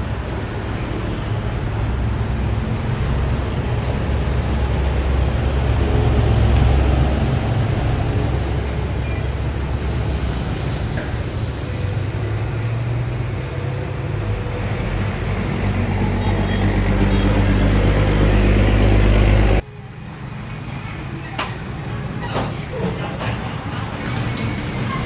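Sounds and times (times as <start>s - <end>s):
truck diesel engine drone: 0.0s - 20.9s
road traffic: 0.0s - 25.0s.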